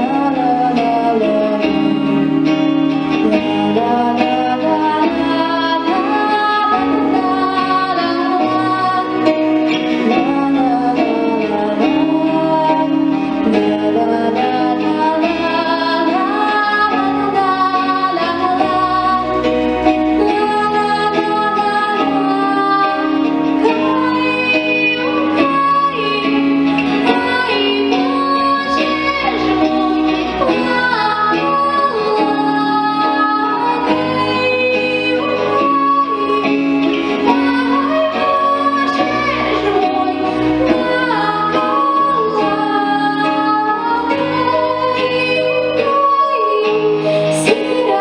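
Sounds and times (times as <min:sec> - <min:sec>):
backing track with steady beat: 0:00.0 - 0:48.0
girl singing into a microphone: 0:00.0 - 0:48.0.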